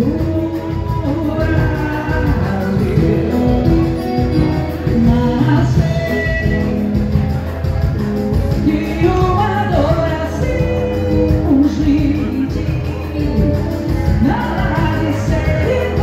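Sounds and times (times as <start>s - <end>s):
dance music with singing: 0.0s - 16.0s.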